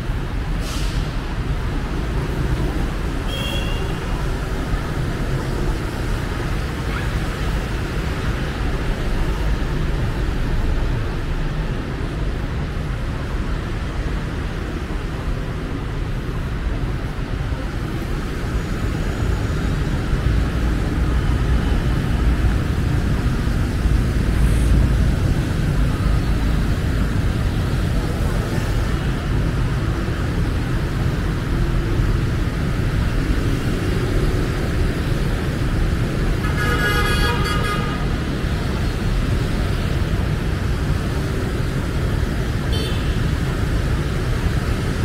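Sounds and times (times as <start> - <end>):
street traffic rumble: 0.0 - 45.0.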